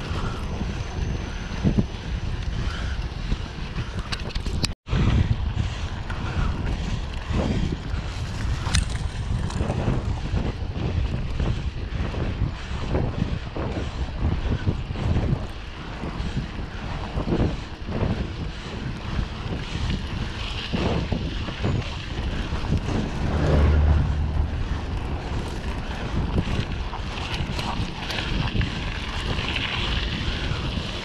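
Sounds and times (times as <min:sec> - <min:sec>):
bike knocking and rattling: 0:00.0 - 0:23.3, 0:24.4 - 0:31.0
wind rumbling on microphone: 0:00.0 - 0:31.0.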